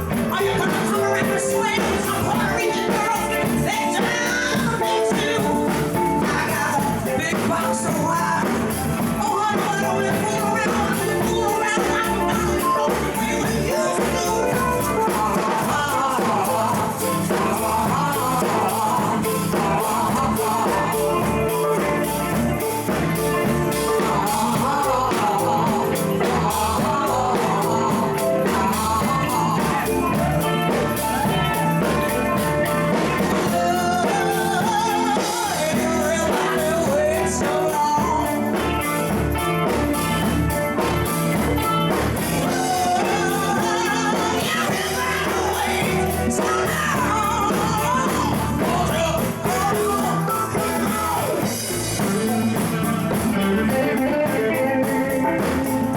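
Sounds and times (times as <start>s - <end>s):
person singing: 0.0s - 55.9s
rock band playing: 0.0s - 55.9s.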